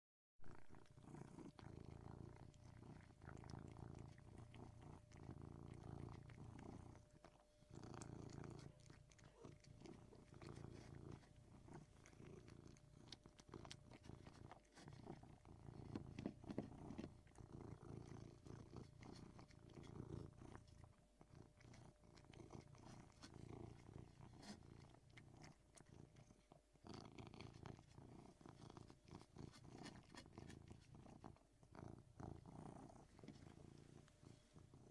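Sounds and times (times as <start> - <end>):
cat purring: 0.4 - 34.9.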